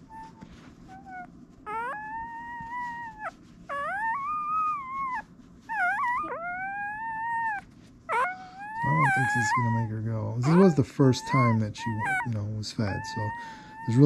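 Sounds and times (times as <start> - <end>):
wipe rubbing: 0.0 - 8.2, 8.8 - 13.3
puppy crying: 0.0 - 14.0.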